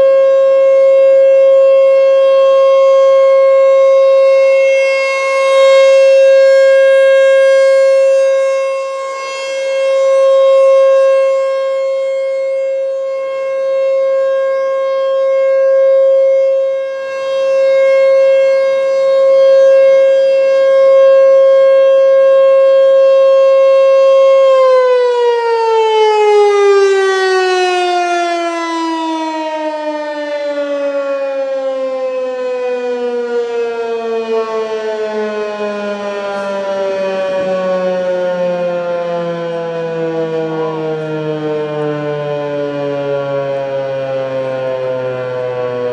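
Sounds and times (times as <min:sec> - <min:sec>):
warning siren steady tone: 0:00.0 - 0:45.9.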